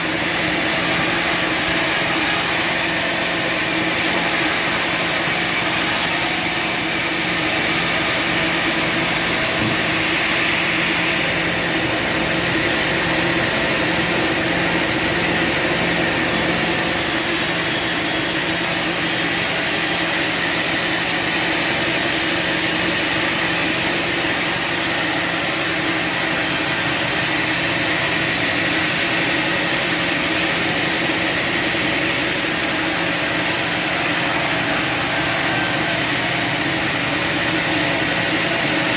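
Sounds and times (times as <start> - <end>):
bandsaw high whine: 0.0 - 38.9.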